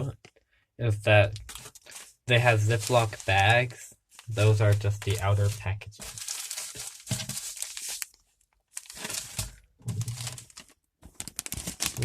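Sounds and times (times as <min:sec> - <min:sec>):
plastic bag crinkling: 0:01.3 - 0:12.0.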